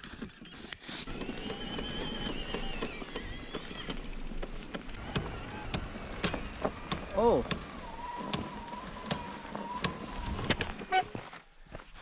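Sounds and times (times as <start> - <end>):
bike drivetrain whine: 0.0 - 12.0.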